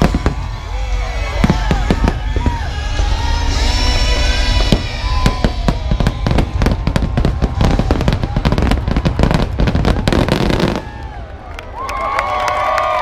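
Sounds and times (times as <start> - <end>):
fireworks bangs and crackles: 0.0 - 11.5.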